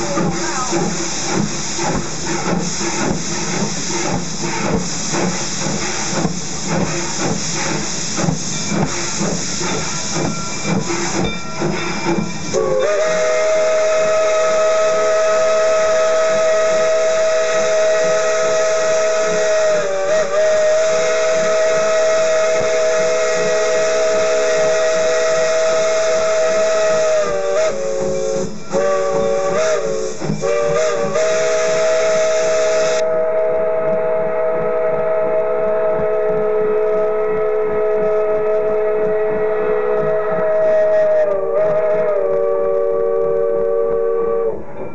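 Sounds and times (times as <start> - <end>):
steam hissing: 0.0 - 36.7
steam locomotive whistle: 8.8 - 44.9.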